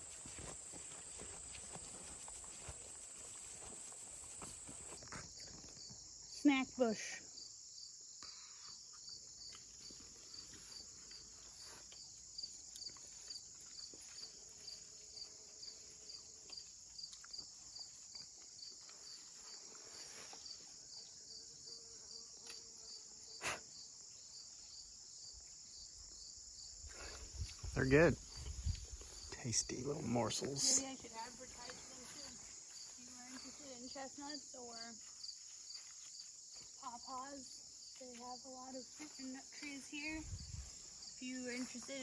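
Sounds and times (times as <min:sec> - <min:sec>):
crickets and insects chirping: 0:00.0 - 0:42.0.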